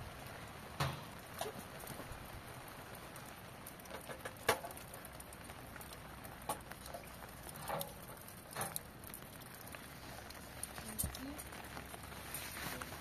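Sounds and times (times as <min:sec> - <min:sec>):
rain patter: 0:00.0 - 0:13.0.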